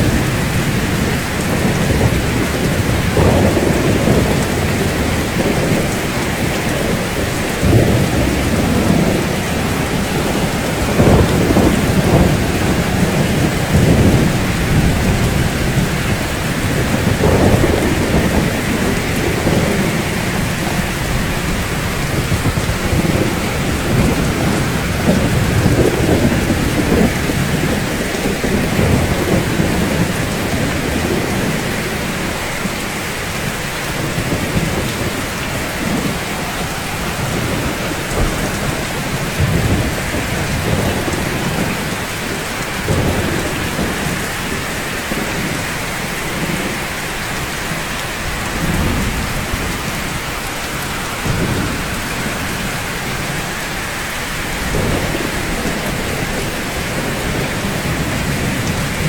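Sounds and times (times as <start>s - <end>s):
heavy rain hissing: 0.0s - 59.0s
thunder rolling: 0.0s - 59.0s.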